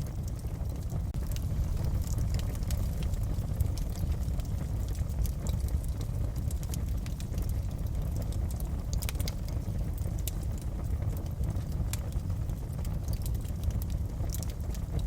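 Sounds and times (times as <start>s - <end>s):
low rumble of burning: 0.0s - 15.0s
wood fire crackling and popping: 0.0s - 15.0s.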